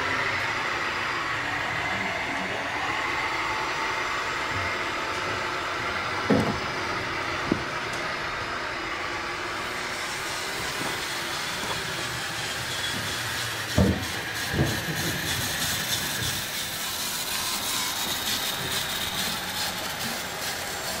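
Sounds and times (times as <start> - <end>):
model trucks hissing and whirring: 0.0 - 21.0.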